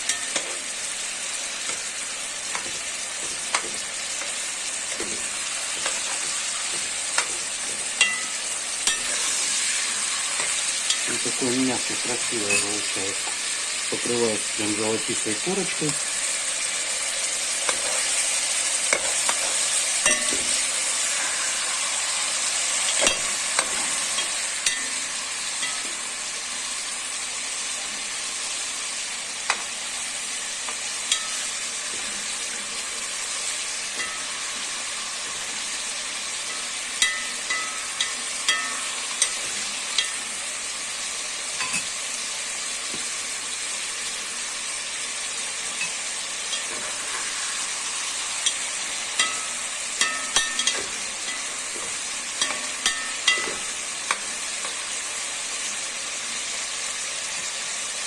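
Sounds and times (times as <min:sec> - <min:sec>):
beef sizzling in fat: 0:00.0 - 0:58.0.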